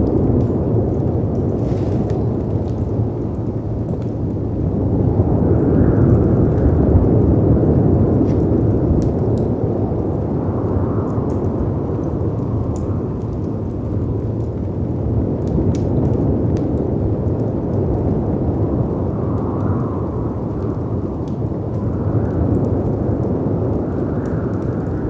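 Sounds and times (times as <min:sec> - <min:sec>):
wind: 0:00.0 - 0:25.0
wood fire crackling: 0:00.0 - 0:25.0.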